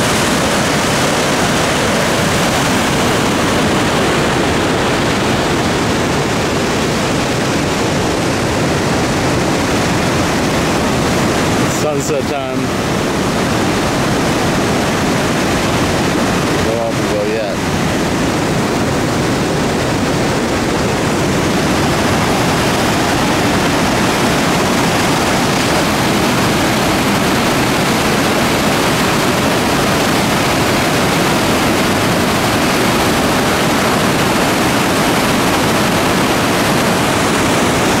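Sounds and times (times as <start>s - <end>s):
river rapids rushing: 0.0s - 38.0s.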